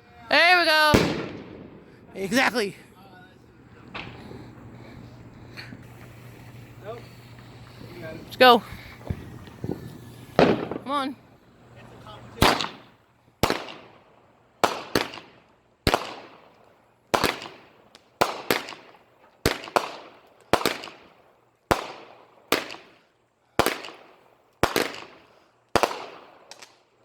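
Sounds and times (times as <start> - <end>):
fireworks bangs: 0.0 - 23.0, 23.6 - 26.8.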